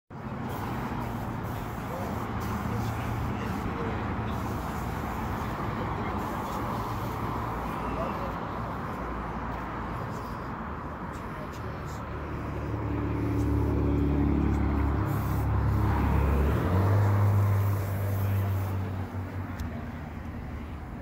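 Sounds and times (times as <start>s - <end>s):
low hum of traffic: 0.1s - 21.0s
faint indistinct voices: 0.2s - 21.0s.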